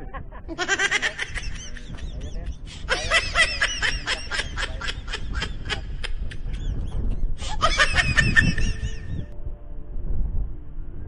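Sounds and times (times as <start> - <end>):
person laughing: 0.0 - 9.3.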